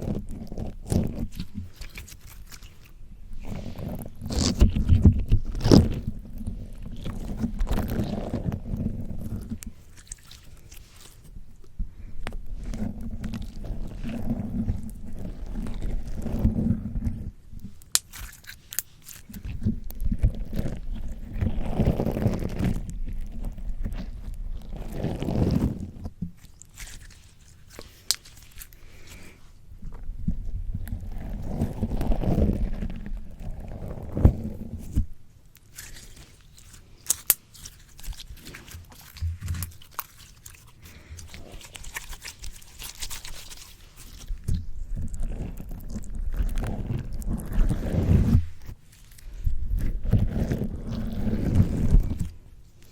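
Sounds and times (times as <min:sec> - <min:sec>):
slime squelching on a microphone: 0:00.0 - 0:52.9.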